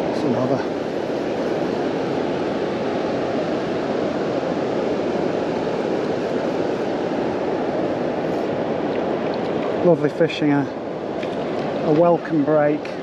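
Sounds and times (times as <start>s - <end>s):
water roaring over weir: 0.0s - 13.0s.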